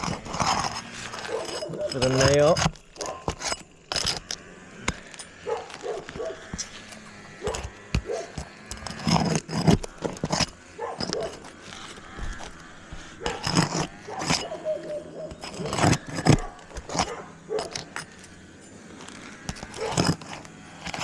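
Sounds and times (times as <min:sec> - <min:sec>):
hand tools tapping and scraping shingles: 0:00.0 - 0:21.0.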